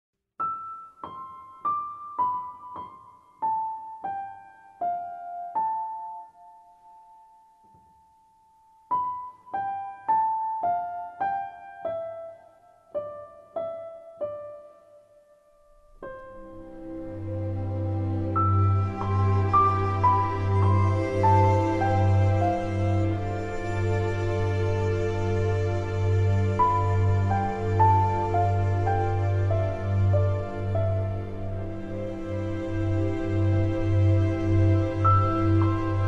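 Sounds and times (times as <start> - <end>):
slow piano melody: 0.4 - 36.0.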